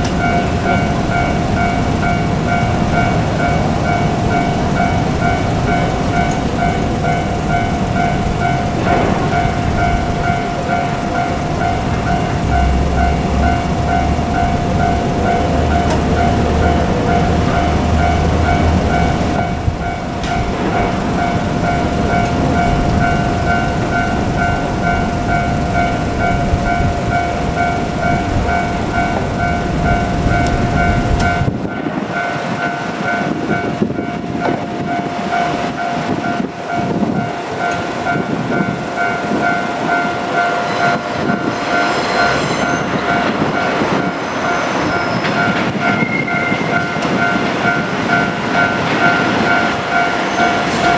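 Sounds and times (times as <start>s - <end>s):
diesel train rumbling past: 0.0s - 50.9s
level-crossing warning bell: 0.0s - 50.9s.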